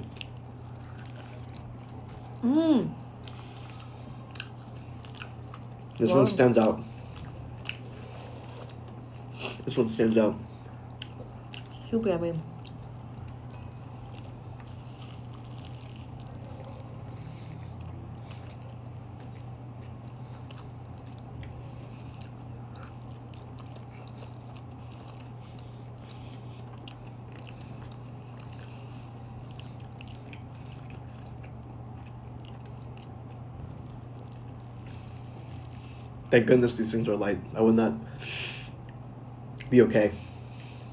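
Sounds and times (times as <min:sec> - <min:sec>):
people chewing crunchy pastry: 0:00.0 - 0:36.6, 0:37.5 - 0:40.9
steady low hum: 0:00.0 - 0:40.9.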